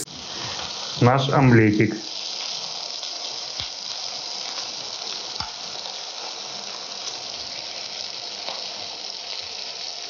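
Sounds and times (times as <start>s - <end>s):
egg mixture sizzling in oil: 0.0s - 10.0s.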